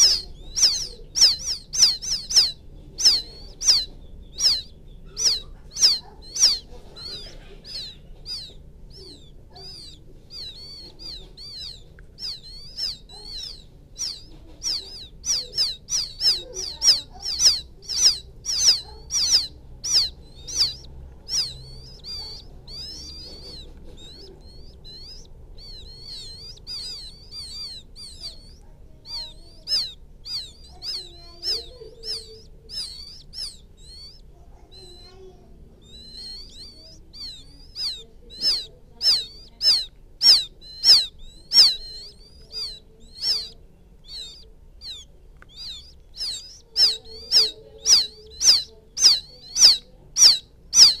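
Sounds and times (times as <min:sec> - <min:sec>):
quail chicks peeping: 0:00.0 - 0:51.0.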